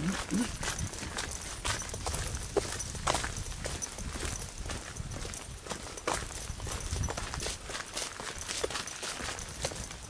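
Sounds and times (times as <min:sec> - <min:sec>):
footsteps on gravel: 0:00.0 - 0:10.0.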